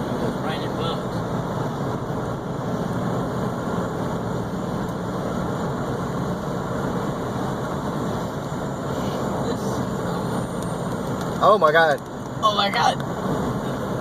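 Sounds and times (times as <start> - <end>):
car engine rumble inside cabin: 0.0 - 14.0.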